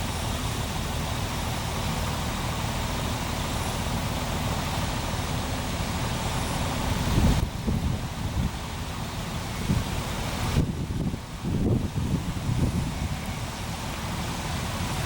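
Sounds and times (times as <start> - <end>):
combine diesel engine hum: 0.0 - 15.0.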